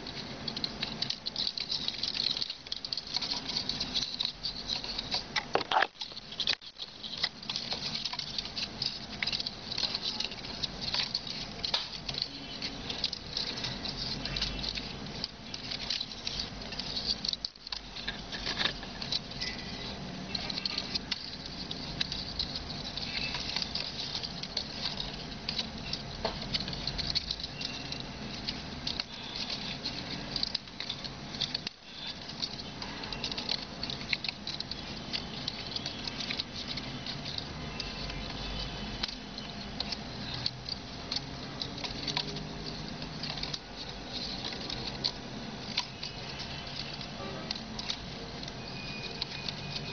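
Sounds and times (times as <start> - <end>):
palm leaves rustling and crackling: 0.0 - 49.9.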